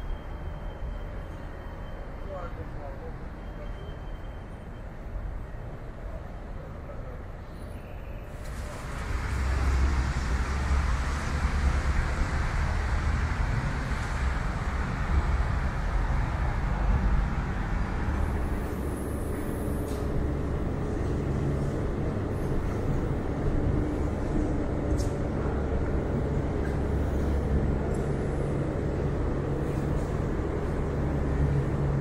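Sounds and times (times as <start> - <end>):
vehicle rumble: 0.0 - 32.0.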